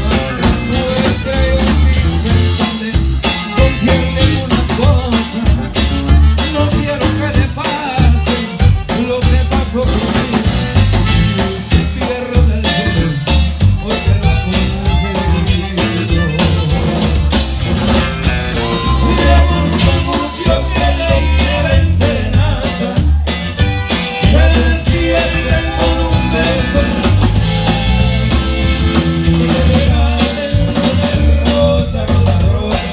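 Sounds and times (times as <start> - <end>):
person singing: 0.0 - 10.5, 11.2 - 17.1, 18.6 - 23.2, 24.2 - 32.9
acoustic guitar: 0.0 - 32.9
drum kit beat: 0.0 - 32.9.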